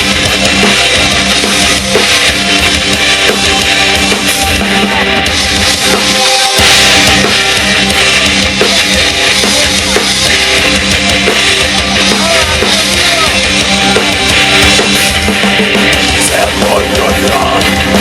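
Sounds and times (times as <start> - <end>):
bass guitar: 0.0 - 18.0
distorted electric guitars: 0.0 - 18.0
drum kit: 0.0 - 18.0.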